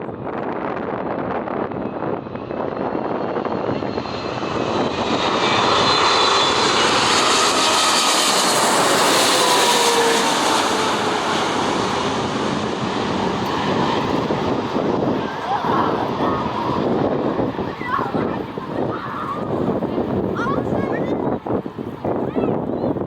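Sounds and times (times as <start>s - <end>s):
jet airliner passing: 0.1s - 23.0s.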